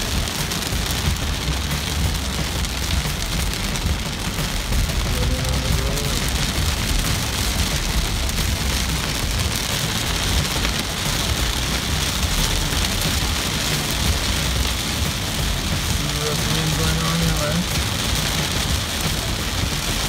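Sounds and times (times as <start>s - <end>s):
car rumbling on wet road: 0.0s - 20.0s
heavy rain on car roof: 0.0s - 20.0s.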